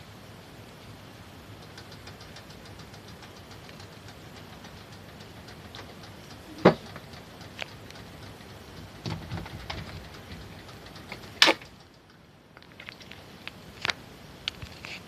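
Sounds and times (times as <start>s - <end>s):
ceiling fan humming: 0.0s - 15.0s
sharp clicks: 1.6s - 14.8s.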